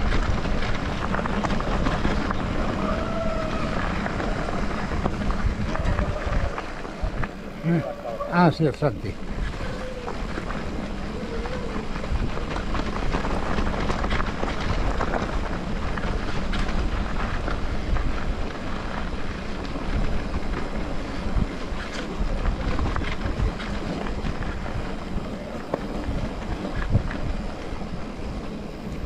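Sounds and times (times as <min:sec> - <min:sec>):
bike knocks and rattles: 0:00.0 - 0:07.4, 0:09.3 - 0:27.6
wind rumble on microphone: 0:00.0 - 0:29.0.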